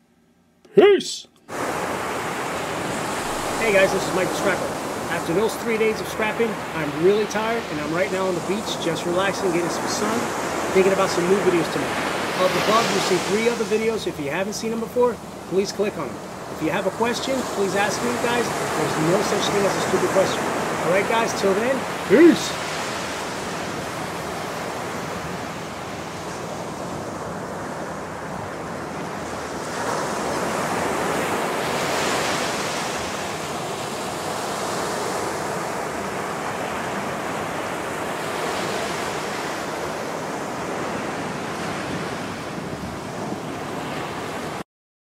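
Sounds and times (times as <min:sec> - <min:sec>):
waves breaking on beach: 0:00.8 - 0:44.6.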